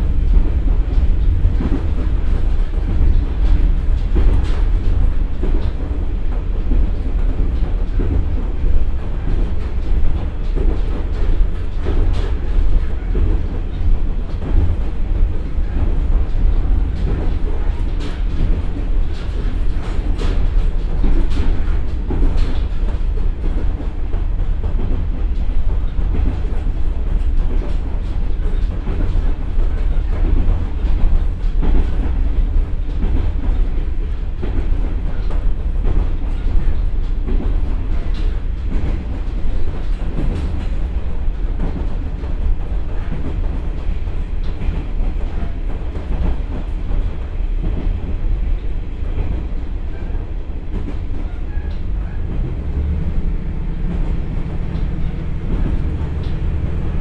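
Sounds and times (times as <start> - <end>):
rolling rail noise: 0.0 - 57.0
train engine drone: 0.0 - 57.0
wheel clacks over rail joints: 0.1 - 57.0.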